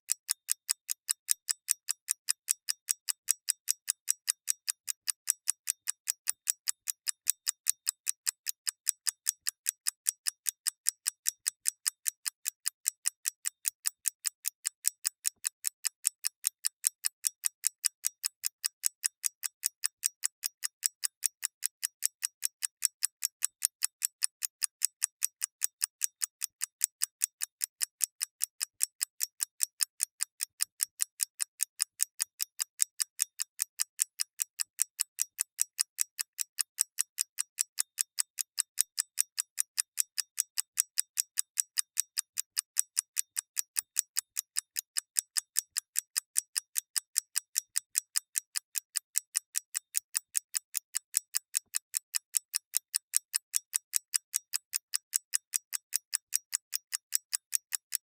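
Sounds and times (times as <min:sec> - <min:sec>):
mechanical clock ticking: 0:00.1 - 0:58.0.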